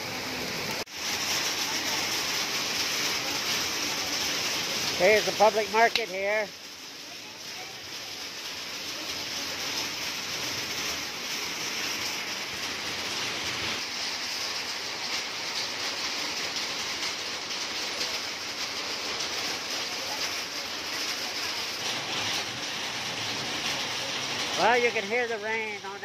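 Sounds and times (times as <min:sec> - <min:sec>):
rain hissing on pavement: 0:00.0 - 0:26.0
rain pattering on tin roof: 0:00.0 - 0:26.0.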